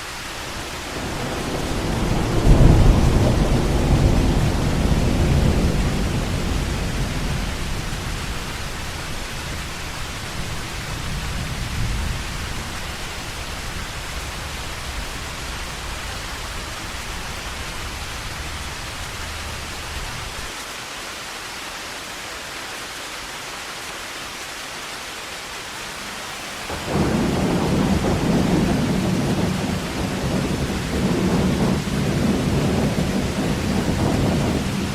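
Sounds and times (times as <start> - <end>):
heavy rain hissing: 0.0 - 34.9
thunder rumbling: 0.1 - 20.5, 26.1 - 34.9.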